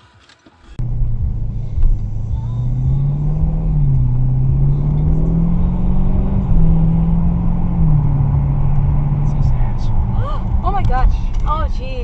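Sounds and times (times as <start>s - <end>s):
road rumble: 0.0s - 12.0s
car engine: 0.2s - 12.0s.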